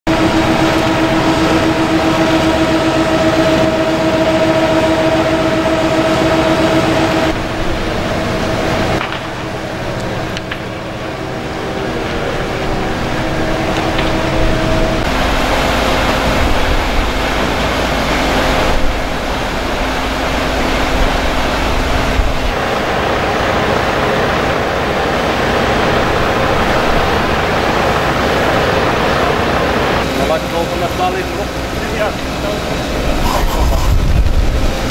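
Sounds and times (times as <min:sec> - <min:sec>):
fire engine pumps droning: 0:00.1 - 0:34.9
hose water jets rushing: 0:00.1 - 0:34.9.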